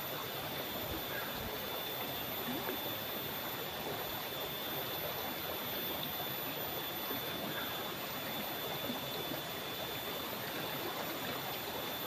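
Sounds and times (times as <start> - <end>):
river water flowing over rocks: 0.0 - 12.0.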